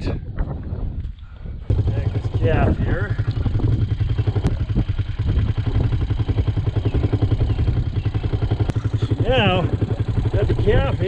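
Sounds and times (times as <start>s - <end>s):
vehicle engine running: 1.7s - 11.0s.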